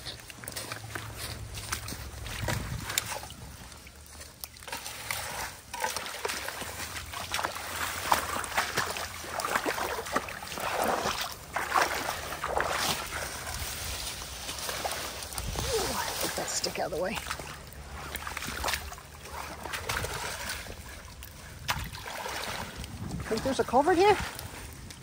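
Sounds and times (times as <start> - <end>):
rake scraping through wet leaves: 0.0 - 25.0
water splashing: 0.0 - 25.0.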